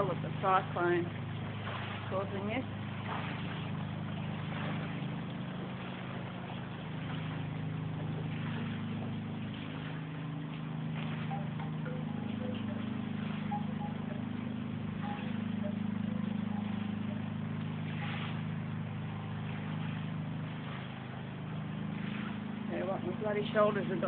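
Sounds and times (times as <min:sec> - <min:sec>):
water spilling from gutters: 0:00.0 - 0:24.0.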